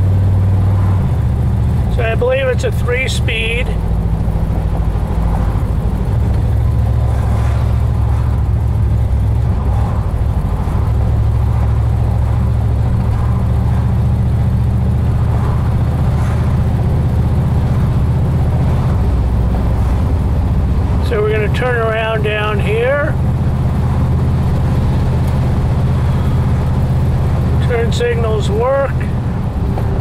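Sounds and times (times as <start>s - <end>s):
car engine running: 0.0s - 30.0s
road noise: 0.0s - 30.0s.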